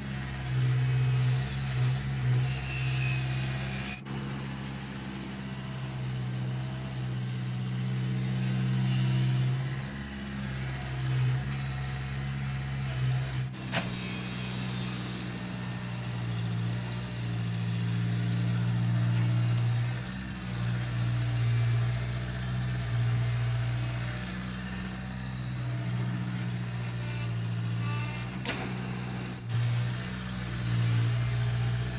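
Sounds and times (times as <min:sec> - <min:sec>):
heavy engine running: 0:00.0 - 0:31.9.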